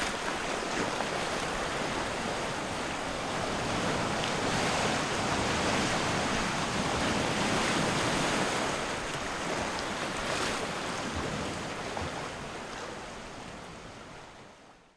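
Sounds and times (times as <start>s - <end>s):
small waves breaking on shore: 0.0s - 14.9s.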